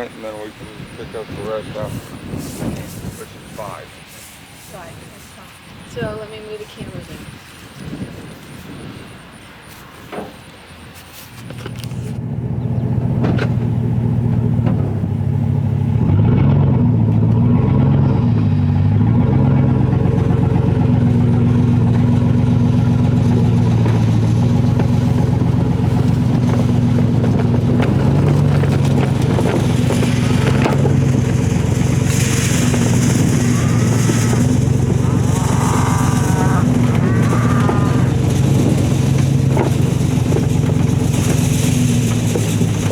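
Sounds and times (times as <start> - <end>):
truck engine humming: 0.0 - 42.9.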